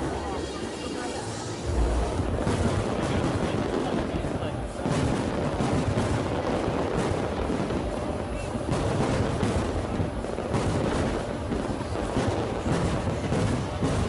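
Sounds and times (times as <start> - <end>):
fireworks exploding: 0.0 - 14.0.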